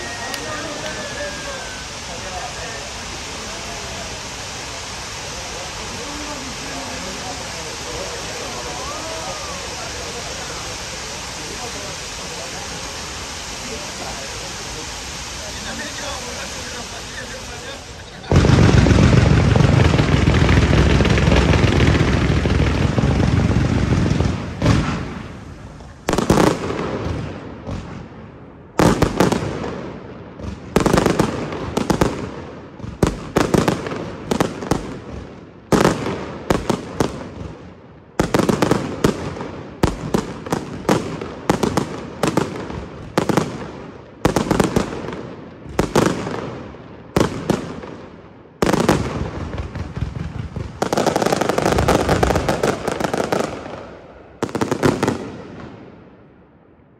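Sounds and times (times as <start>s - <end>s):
fireworks bursting: 0.0s - 56.4s.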